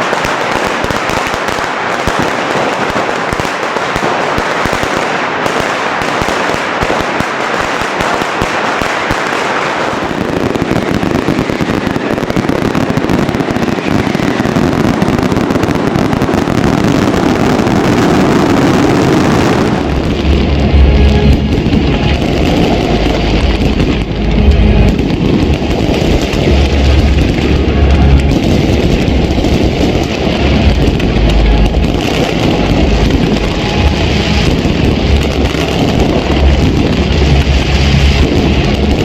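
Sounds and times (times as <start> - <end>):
firecrackers crackling: 0.0 - 39.0.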